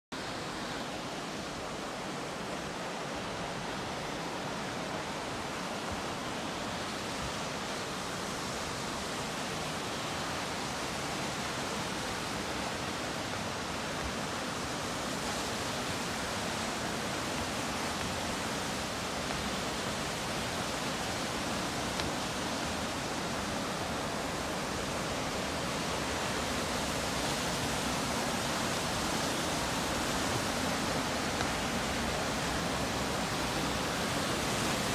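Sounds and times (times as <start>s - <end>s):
waterfall rushing over rocks: 0.2s - 34.9s.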